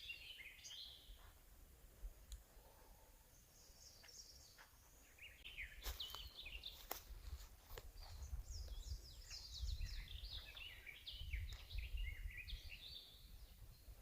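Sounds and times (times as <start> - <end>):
songbird singing: 0.0 - 1.4, 2.2 - 14.0.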